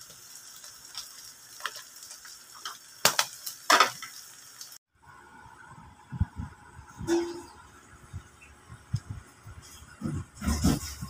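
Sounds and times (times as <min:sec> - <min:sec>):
light sizzle: 0:00.0 - 0:11.0.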